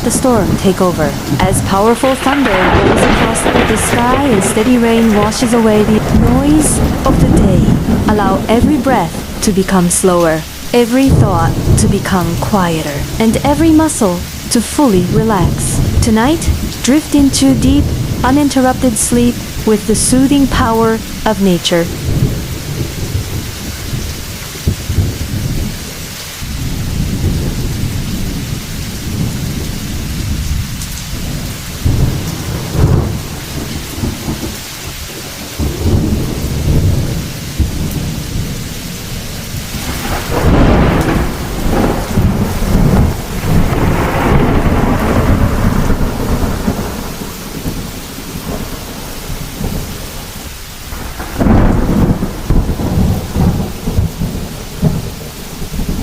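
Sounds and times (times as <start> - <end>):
steady rain hissing: 0.0 - 56.0
thunder rolling and rumbling: 0.0 - 56.0.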